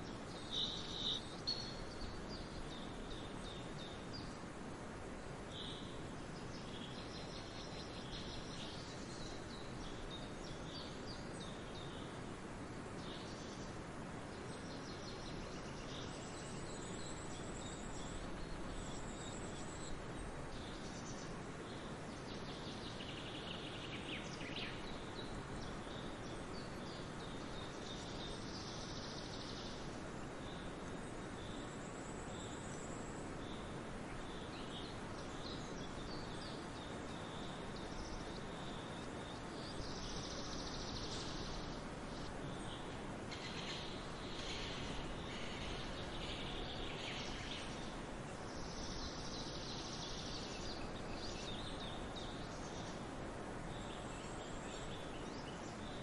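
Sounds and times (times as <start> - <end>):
even outdoor hiss: 0.0 - 56.0.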